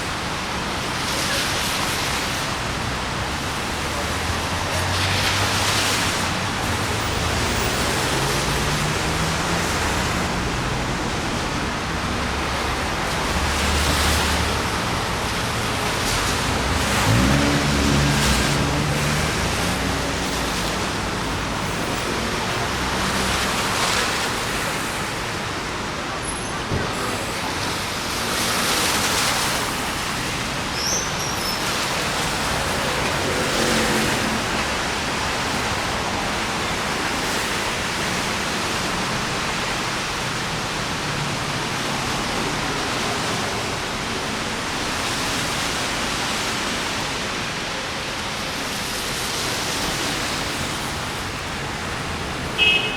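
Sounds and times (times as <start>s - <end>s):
rain hiss: 0.0s - 52.9s
traffic on wet streets: 0.0s - 52.9s.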